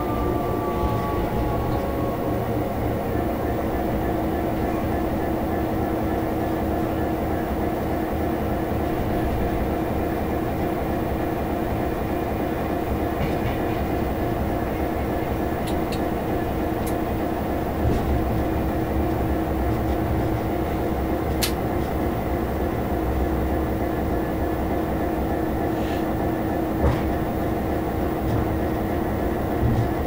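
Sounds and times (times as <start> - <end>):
locomotive engine drone: 0.0 - 30.0.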